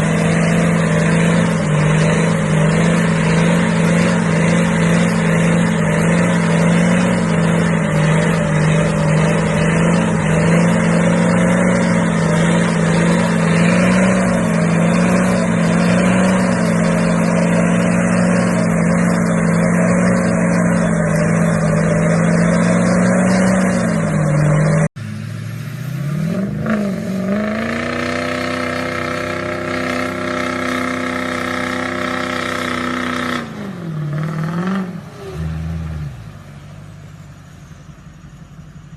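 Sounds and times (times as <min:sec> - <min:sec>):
engine revving: 0:00.0 - 0:36.4
truck engine running: 0:00.0 - 0:38.9.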